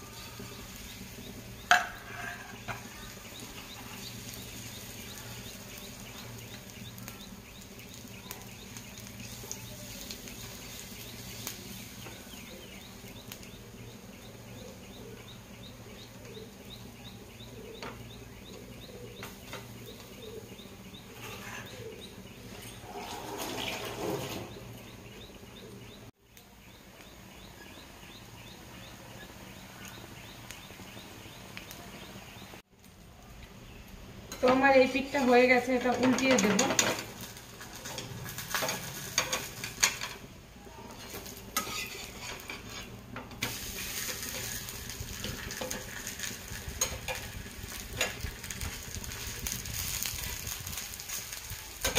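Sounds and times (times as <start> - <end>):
batter sizzling on hot griddle: 0.0 - 51.9.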